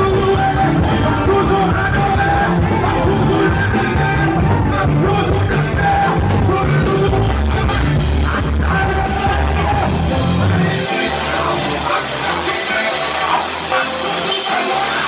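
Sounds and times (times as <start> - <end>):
drum kit: 0.0 - 15.0
live worship band playing: 0.0 - 15.0
man singing into a microphone: 0.0 - 15.0.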